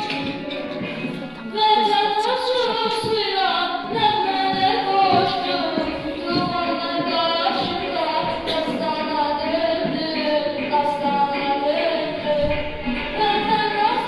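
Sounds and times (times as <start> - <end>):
boy singing into a microphone: 0.0 - 14.0.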